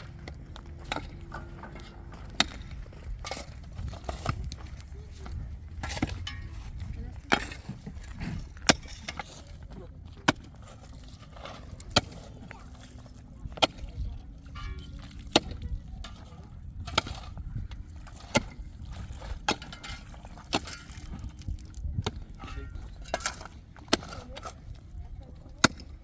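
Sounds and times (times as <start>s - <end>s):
steady low rumble: 0.0s - 23.8s.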